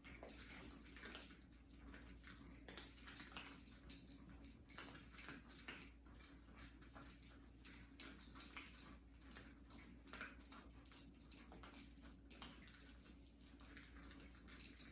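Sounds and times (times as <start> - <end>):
cats chewing food: 0.0 - 14.9.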